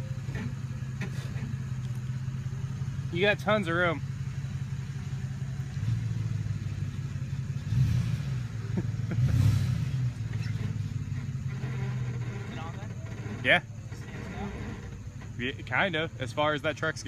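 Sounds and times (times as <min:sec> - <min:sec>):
truck engine rumbling and revving: 0:00.0 - 0:17.0.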